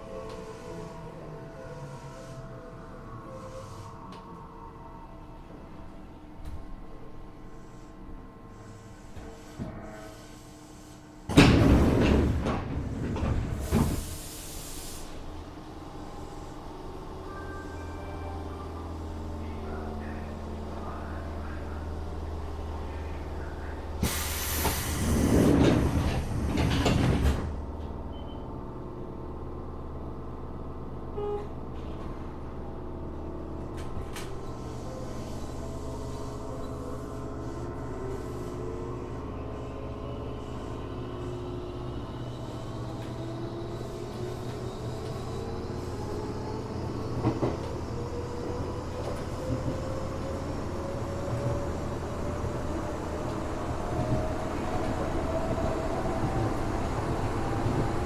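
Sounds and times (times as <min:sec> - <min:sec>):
electric train running hum: 0:00.0 - 0:58.0.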